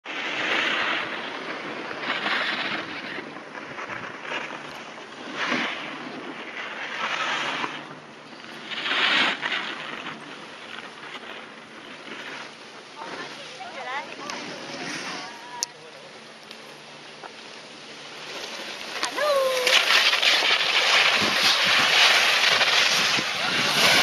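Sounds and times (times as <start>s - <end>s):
skis scraping on packed snow: 0.1s - 15.6s, 17.2s - 24.0s.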